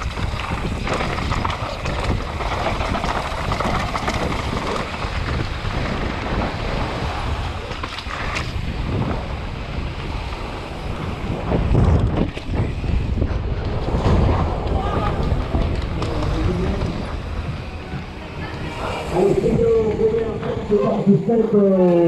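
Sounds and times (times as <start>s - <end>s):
bike clattering over bumps: 0.0s - 18.9s
tyres rolling over gravel: 0.0s - 21.2s
wind rushing over microphone: 0.0s - 22.0s.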